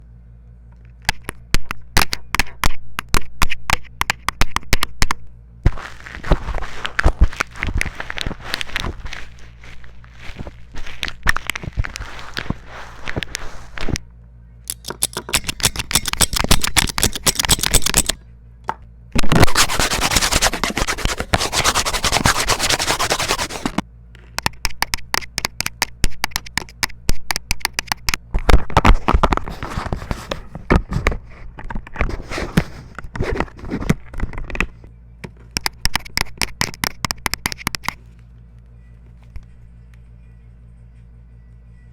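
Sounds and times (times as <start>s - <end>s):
faint low hum: 0.0s - 41.9s
crackling scratching clicks: 1.0s - 14.0s, 14.7s - 18.2s, 19.2s - 34.8s, 35.5s - 38.0s.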